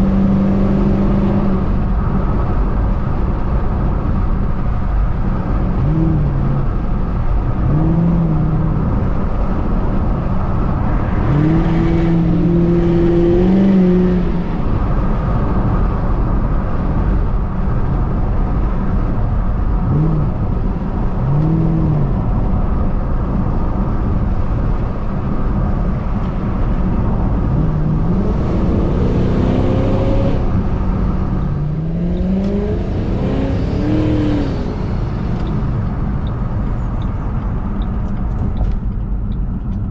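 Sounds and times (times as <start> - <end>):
car engine accelerating: 0.0 - 17.1, 18.8 - 39.9.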